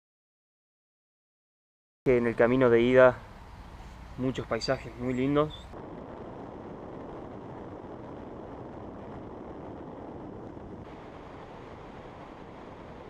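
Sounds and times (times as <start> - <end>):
vehicle wind and road noise: 2.1 - 13.0.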